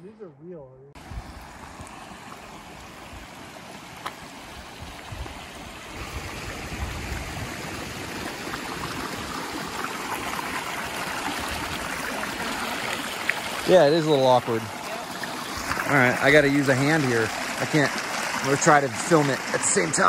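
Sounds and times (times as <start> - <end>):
rushing stream water: 1.0 - 20.0.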